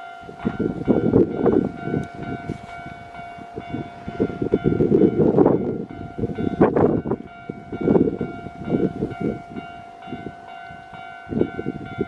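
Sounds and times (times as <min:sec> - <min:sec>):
crossing warning bell ringing: 0:00.0 - 0:12.0
train wheels clattering: 0:00.0 - 0:12.0.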